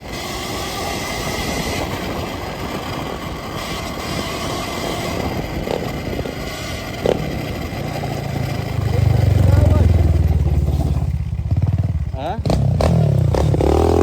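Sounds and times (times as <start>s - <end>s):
dirt bike rumble and rattle: 0.0s - 14.0s
wind noise: 0.0s - 14.0s.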